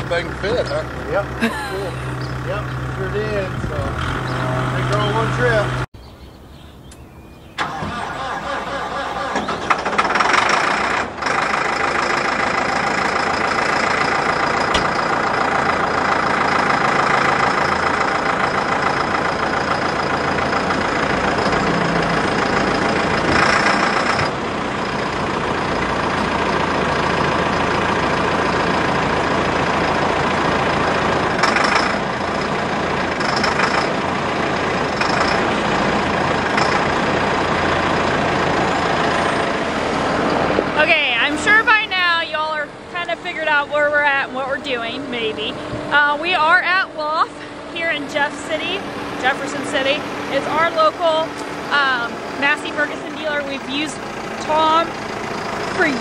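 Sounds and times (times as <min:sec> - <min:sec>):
large vehicle engine idling: 0:00.0 - 0:56.0.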